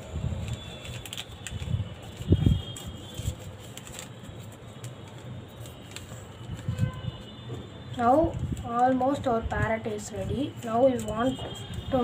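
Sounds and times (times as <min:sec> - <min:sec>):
paper folding: 0:00.0 - 0:12.0.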